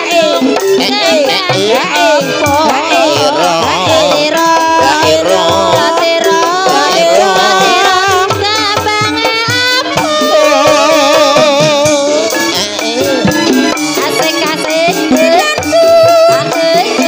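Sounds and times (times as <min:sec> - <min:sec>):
hand drum: 0:00.0 - 0:17.0
person singing with vibrato: 0:00.0 - 0:17.0.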